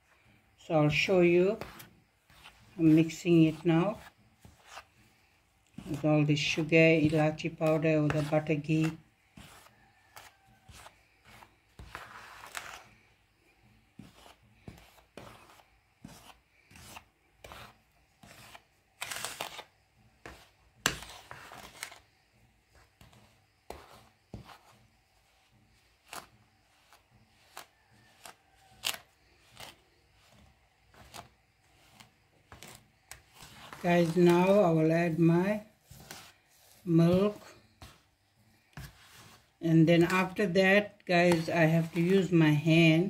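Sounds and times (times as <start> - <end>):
metal spoon scraping plastic bowl: 0.7 - 5.0, 5.7 - 13.0, 14.0 - 22.1, 22.7 - 38.1, 38.8 - 43.0.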